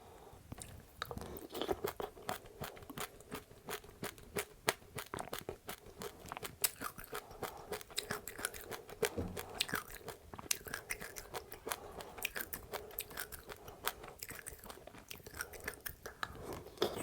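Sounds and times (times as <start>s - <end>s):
chewing crunchy seeds: 0.5s - 17.0s.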